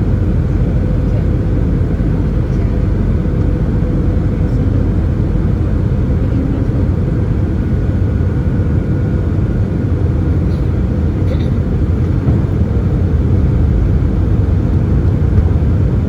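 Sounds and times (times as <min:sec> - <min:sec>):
aircraft engines and airflow rumble: 0:00.0 - 0:16.0.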